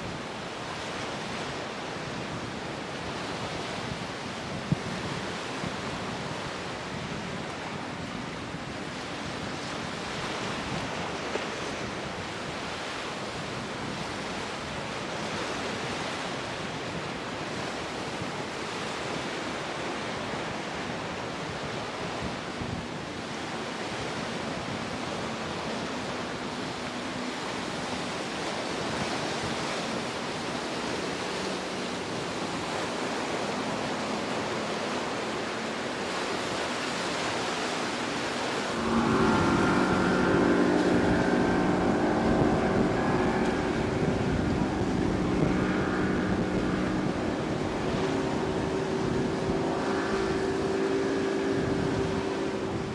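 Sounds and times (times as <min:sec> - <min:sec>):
faint outboard motor hum: 0:00.0 - 0:52.9
waves breaking: 0:00.0 - 0:52.9
wind buffeting microphone: 0:00.0 - 0:52.9.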